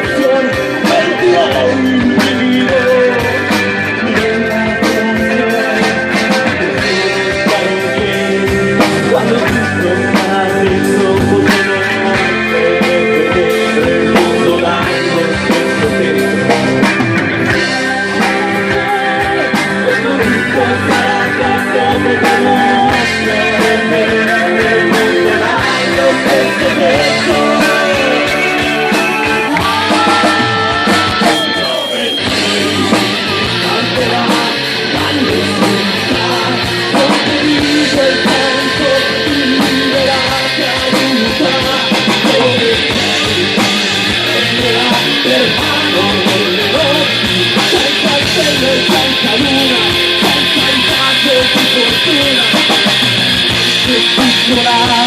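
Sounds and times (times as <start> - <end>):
noise-rock band playing: 0.0 - 55.0
sliding guitar notes: 0.0 - 55.0.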